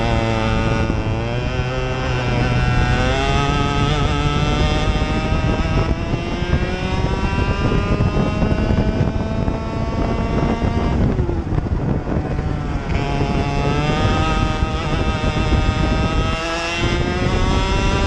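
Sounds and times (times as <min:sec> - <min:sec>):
kart engine revving: 0:00.0 - 0:18.0.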